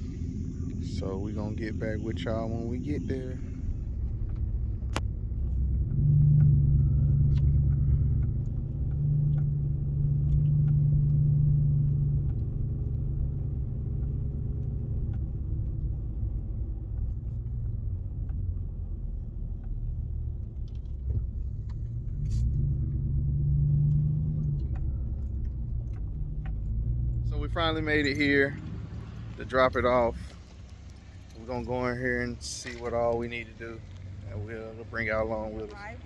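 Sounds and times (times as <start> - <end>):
road rumble: 0.0 - 36.0
vehicle engine drone: 0.0 - 36.0.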